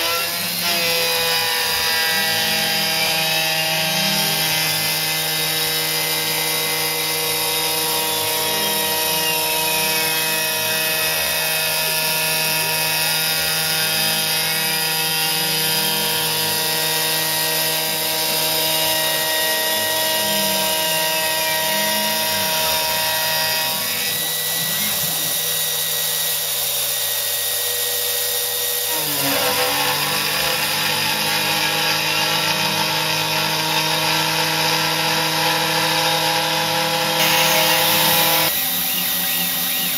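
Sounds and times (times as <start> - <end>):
cnc router spindle whining: 0.0 - 39.9
rough cutting noise: 0.0 - 39.9.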